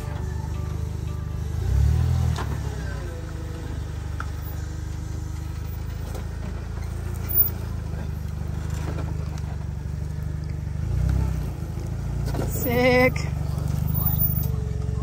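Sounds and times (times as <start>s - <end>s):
car engine running low: 0.0s - 15.0s.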